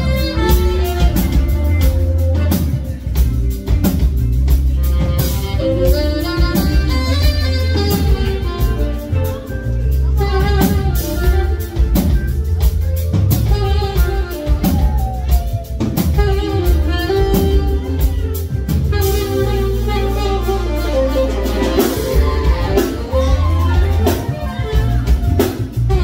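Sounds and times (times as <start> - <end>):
live band playing: 0.0 - 26.0
saxophone melody: 0.0 - 26.0.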